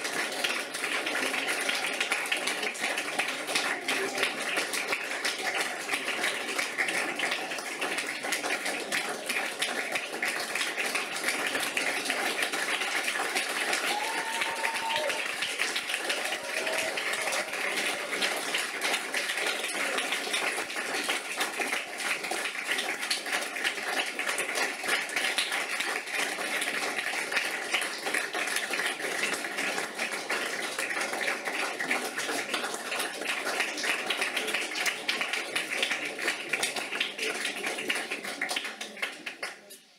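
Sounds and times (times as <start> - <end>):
audience applauding: 0.0 - 39.8.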